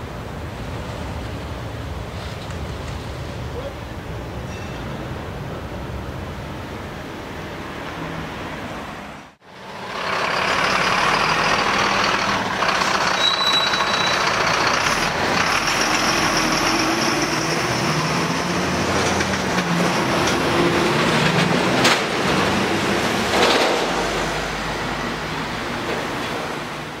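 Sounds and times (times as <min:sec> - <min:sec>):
truck engine and road noise: 0:00.0 - 0:27.0.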